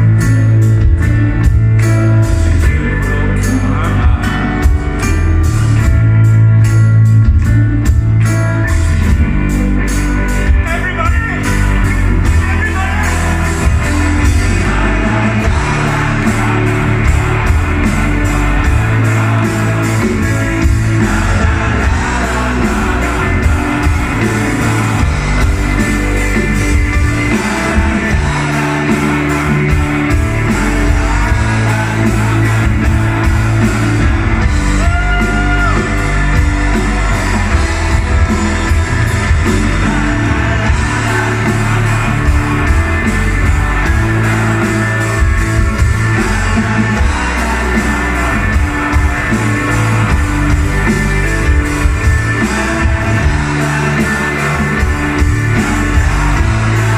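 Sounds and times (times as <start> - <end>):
live rock band playing: 0.0 - 56.9
person singing: 2.5 - 5.4, 12.6 - 56.9.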